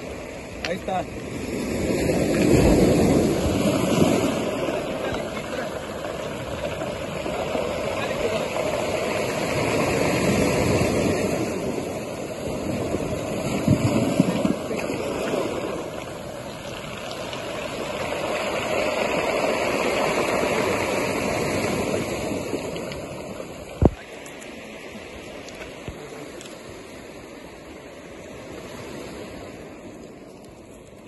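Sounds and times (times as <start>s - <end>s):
surf breaking on rocky shore: 0.0s - 31.0s.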